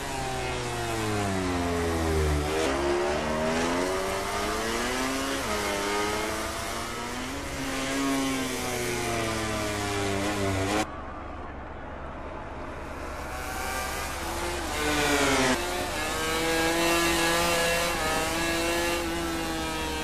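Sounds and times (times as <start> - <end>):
racing motorcycle engines revving: 0.0 - 10.9, 12.6 - 20.0.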